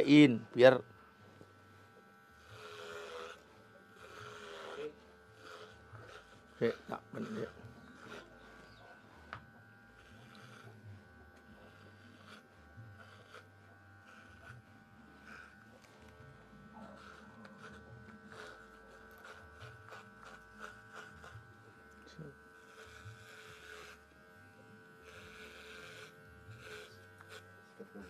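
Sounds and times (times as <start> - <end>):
electric hair clipper buzzing: 0.0 - 28.0.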